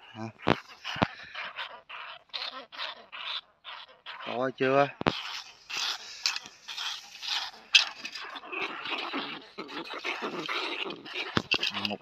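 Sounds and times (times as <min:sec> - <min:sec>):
rats scratching at trap: 0:00.4 - 0:12.0.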